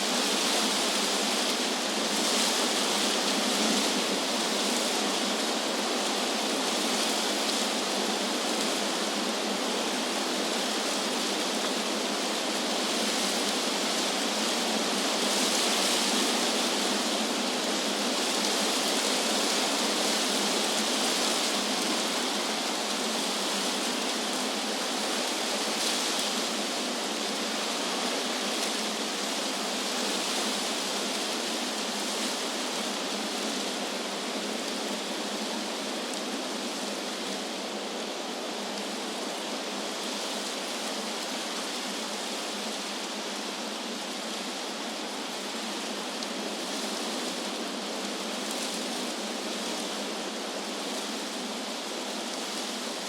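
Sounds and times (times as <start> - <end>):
wind rustling tree leaves: 0.0 - 53.0.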